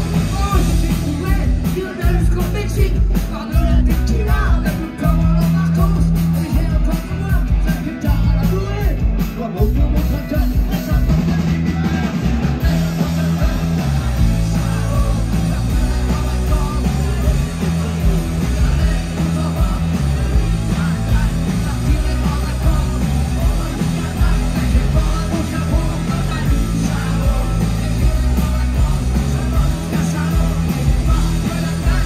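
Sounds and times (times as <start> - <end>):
bass: 0.0 - 32.0
distorted electric guitars: 0.0 - 32.0
drums: 0.0 - 32.0
person singing: 0.0 - 32.0.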